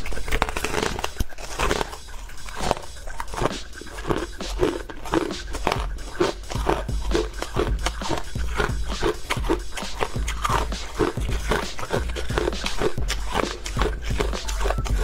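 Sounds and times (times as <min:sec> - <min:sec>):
ice cubes crunched between teeth: 0:00.0 - 0:15.0.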